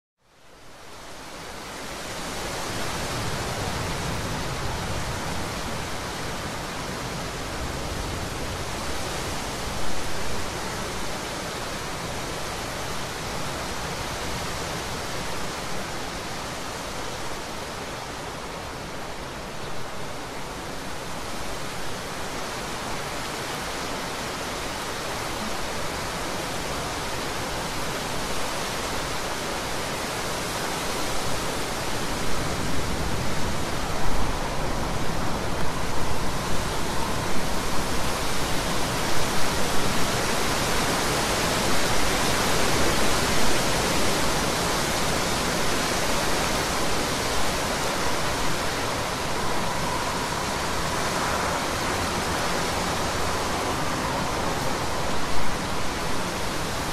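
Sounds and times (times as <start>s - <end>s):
heavy rain pouring: 0.6s - 56.9s.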